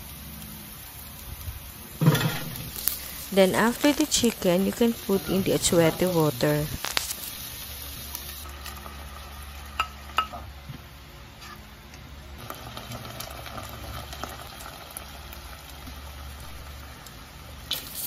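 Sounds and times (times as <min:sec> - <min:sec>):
food sizzling in hot oil: 0:00.0 - 0:10.6, 0:12.4 - 0:18.0.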